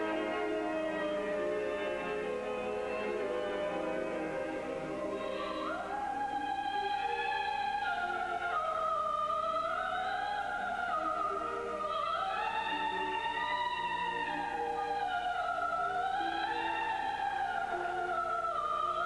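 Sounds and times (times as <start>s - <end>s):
operatic singing voice: 0.0s - 19.0s
orchestra: 0.0s - 19.0s.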